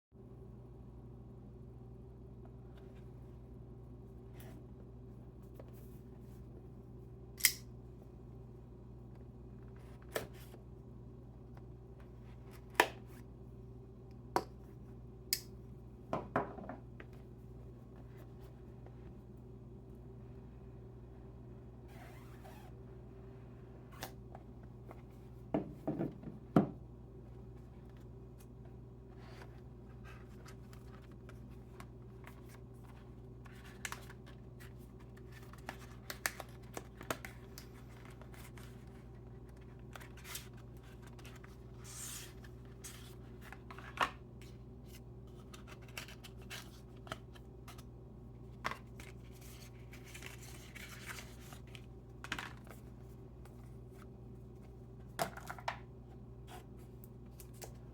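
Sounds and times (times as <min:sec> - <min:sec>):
steady low hum: 0:00.2 - 0:57.9.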